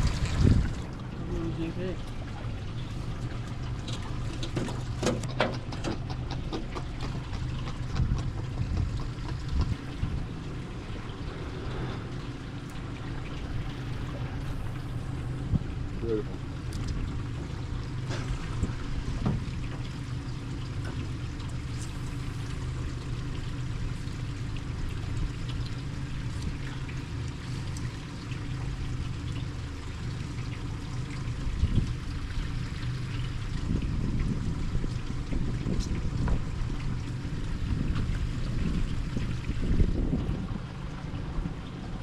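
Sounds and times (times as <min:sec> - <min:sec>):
boat low hum: 0:00.0 - 0:42.0
water sloshing around hull: 0:00.0 - 0:42.0.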